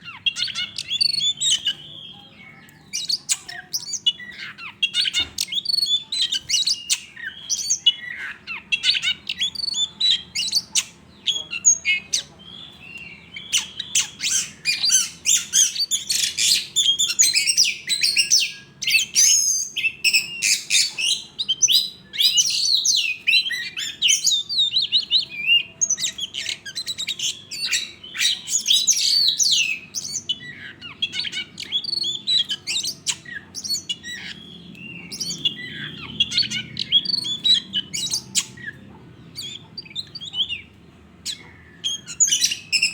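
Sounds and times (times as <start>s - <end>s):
bird singing chirping song: 0.0s - 42.9s.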